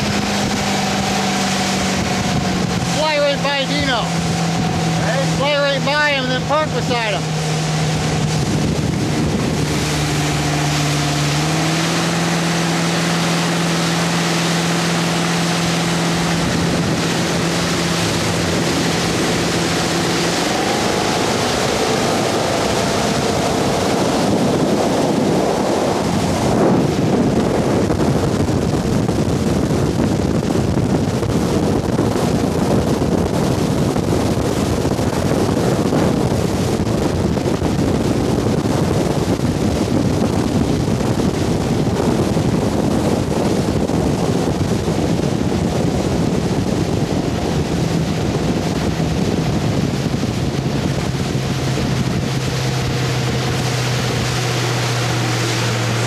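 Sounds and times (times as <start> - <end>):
motorboat engine running: 0.0 - 56.0
water from boat wake: 0.0 - 56.0
wind rushing on microphone: 0.0 - 56.0.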